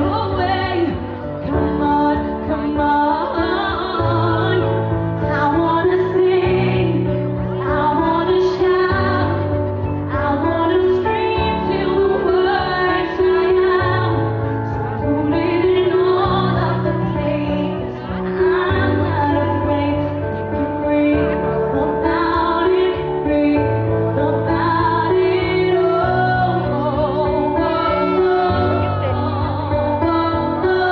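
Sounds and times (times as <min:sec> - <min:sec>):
woman singing slow melody: 0:00.0 - 0:30.9.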